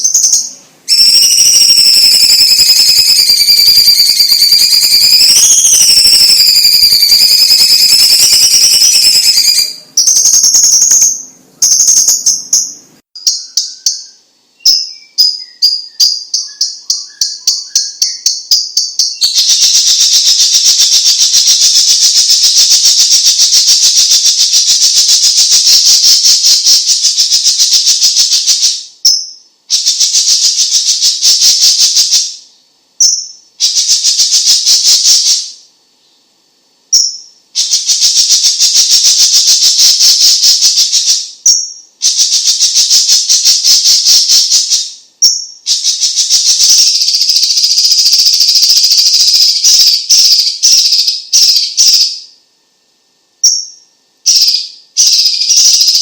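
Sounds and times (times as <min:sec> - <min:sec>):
songbird rattling trills: 0:00.0 - 0:32.3, 0:36.9 - 0:52.2, 0:53.4 - 0:56.0.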